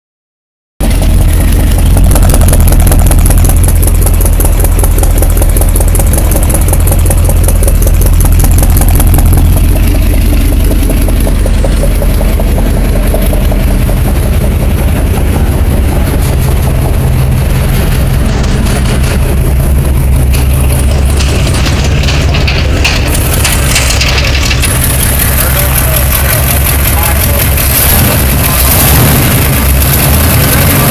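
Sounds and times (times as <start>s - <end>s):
truck engine idling loudly: 0.8s - 30.9s.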